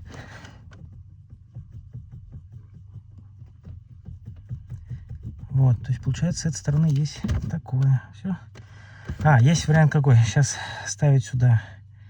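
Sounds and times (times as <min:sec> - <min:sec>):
steering column knocking: 0:00.0 - 0:10.4
low hum: 0:00.0 - 0:12.0.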